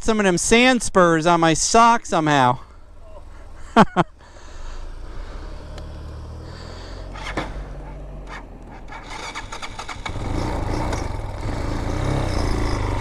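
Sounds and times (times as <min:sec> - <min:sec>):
vehicle engine idling: 0:02.2 - 0:13.0.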